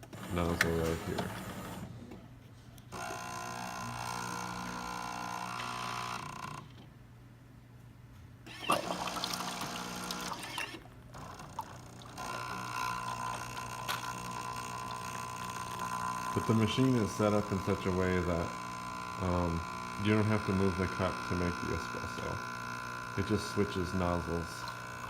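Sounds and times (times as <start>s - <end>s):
espresso machine pump hum: 2.9s - 6.6s, 8.5s - 25.0s.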